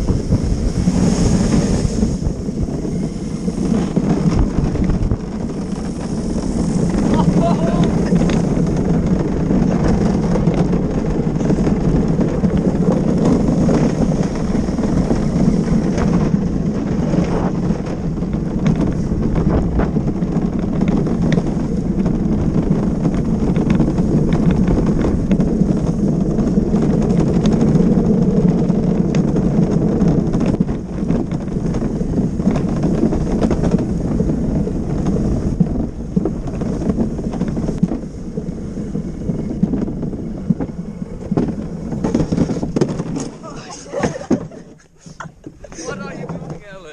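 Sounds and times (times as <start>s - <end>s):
wheels rumbling on asphalt: 0.0s - 46.9s
wind buffeting microphone: 0.0s - 46.9s.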